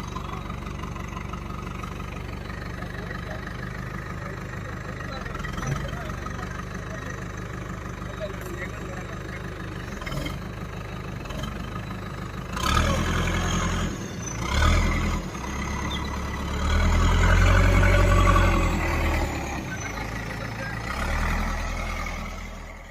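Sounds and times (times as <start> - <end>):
diesel engine revving: 0.0 - 22.9.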